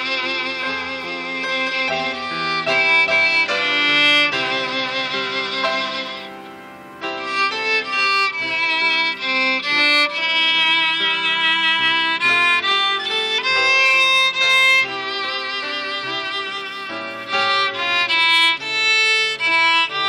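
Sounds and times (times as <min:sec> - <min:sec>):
piano accompaniment: 0:00.0 - 0:20.0
viola bowing slow melody: 0:00.0 - 0:20.0.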